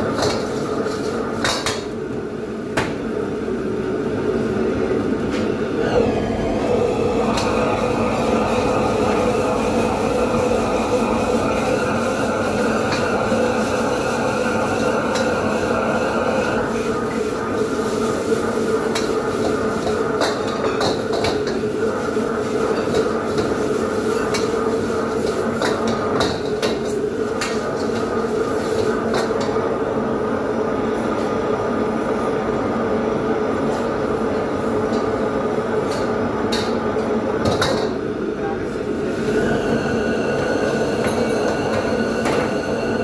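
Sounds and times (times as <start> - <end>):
gas wok range and exhaust hood hum: 0.0 - 43.0.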